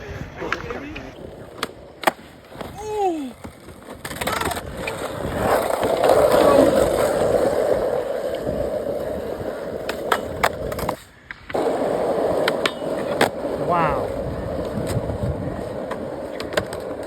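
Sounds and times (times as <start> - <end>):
skateboard wheels rolling on pavement: 0.0 - 17.0.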